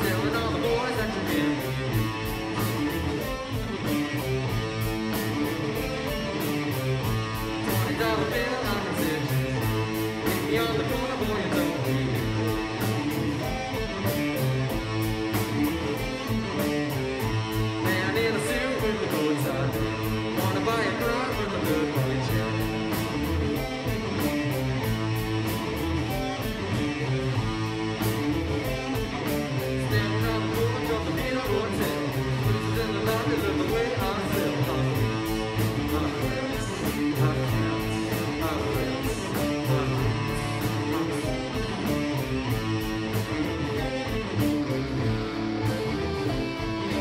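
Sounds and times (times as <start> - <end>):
bass guitar: 0.0 - 47.0
drum kit beat: 0.0 - 47.0
electric guitars: 0.0 - 47.0.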